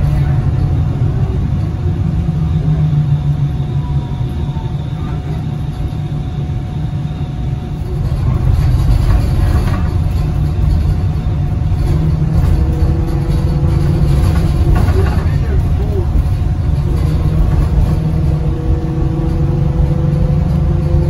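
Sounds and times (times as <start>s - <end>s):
bus road rumble: 0.0s - 21.0s.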